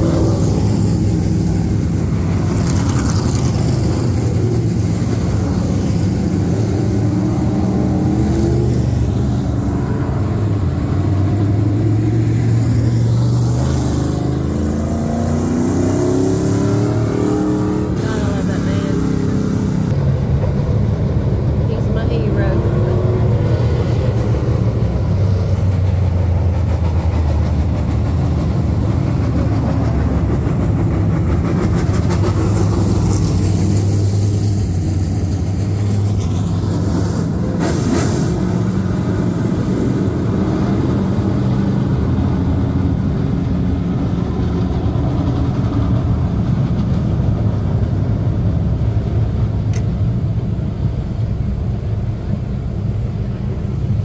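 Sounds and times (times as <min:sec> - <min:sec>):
race car engines rumbling: 0:00.0 - 0:54.0.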